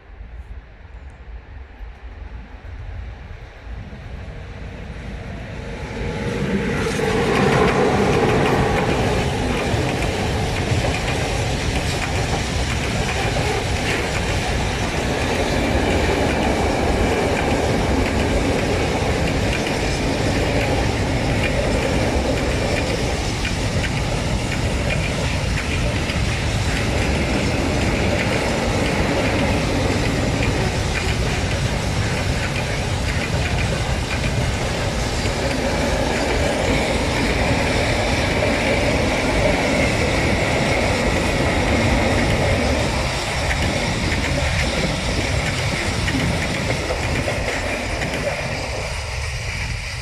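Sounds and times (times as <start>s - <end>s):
freight train passing: 0.0s - 50.0s.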